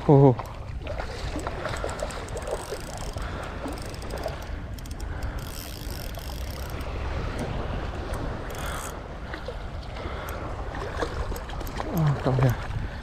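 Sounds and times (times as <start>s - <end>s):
seawater sloshing and splashing: 0.0s - 13.0s
wind rumbling on microphone: 0.0s - 13.0s.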